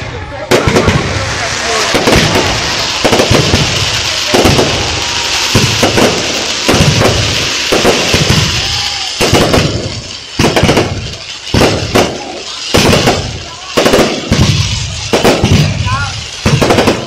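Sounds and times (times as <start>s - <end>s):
fireworks bursting with bangs: 0.0s - 17.0s
fireworks crackling hiss: 0.0s - 17.0s.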